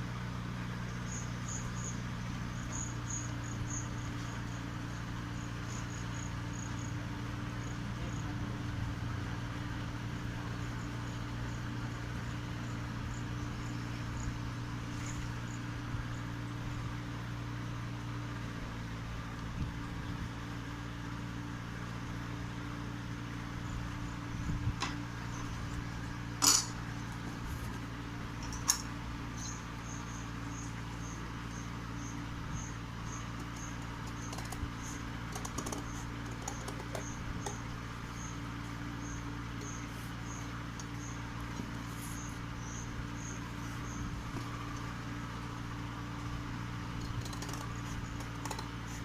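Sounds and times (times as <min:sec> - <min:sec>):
steady low hum: 0:00.0 - 0:49.0
cricket chirping: 0:00.6 - 0:49.0.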